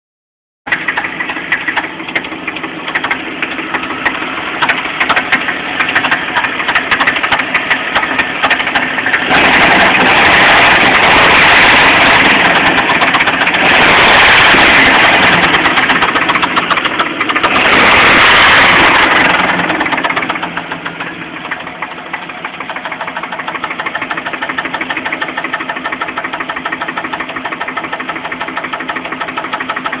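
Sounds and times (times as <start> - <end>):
knocking car engine: 0.7 - 30.0.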